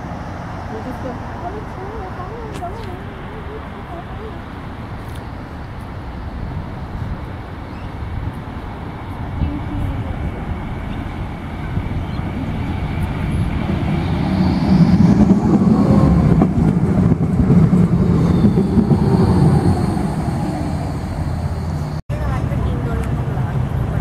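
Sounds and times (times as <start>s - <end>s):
tram wheels rumbling on track: 0.0s - 24.0s.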